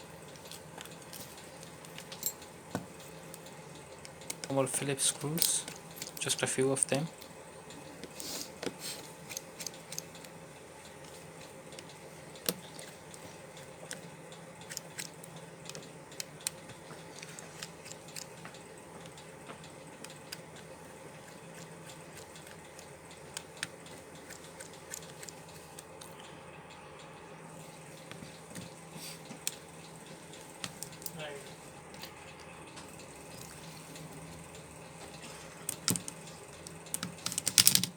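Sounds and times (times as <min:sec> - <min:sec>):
steady low hum: 0:00.0 - 0:37.8.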